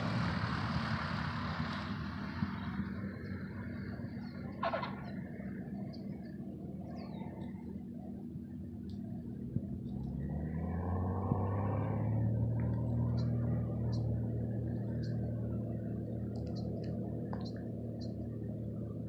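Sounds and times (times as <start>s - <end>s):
propeller plane droning past: 0.0s - 19.0s.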